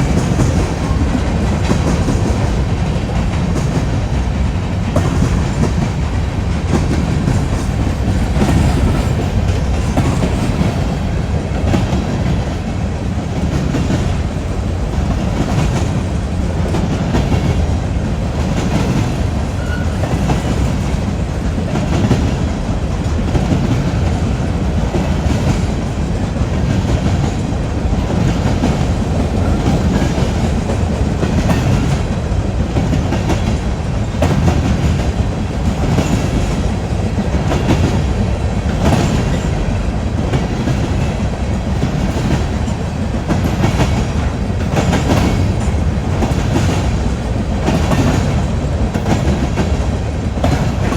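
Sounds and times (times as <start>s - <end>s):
train rumbling past: 0.0s - 50.9s
wheels clacking over rail joints: 0.0s - 50.9s.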